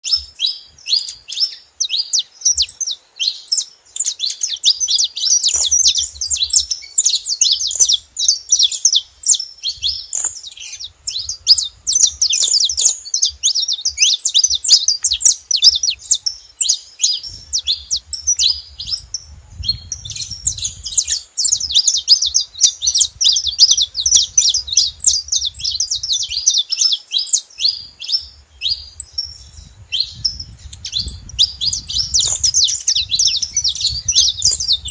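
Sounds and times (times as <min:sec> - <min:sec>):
finch chirping rapidly: 0:00.0 - 0:34.9.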